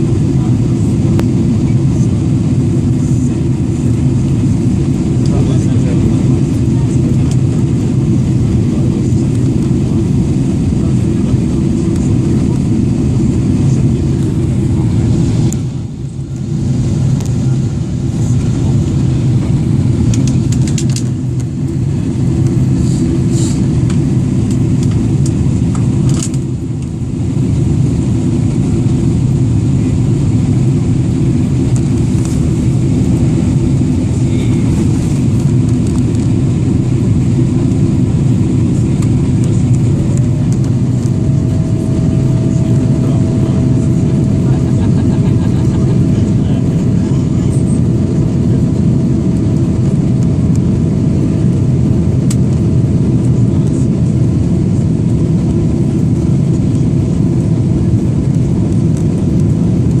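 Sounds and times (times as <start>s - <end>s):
airplane cabin rumble: 0.0s - 60.0s.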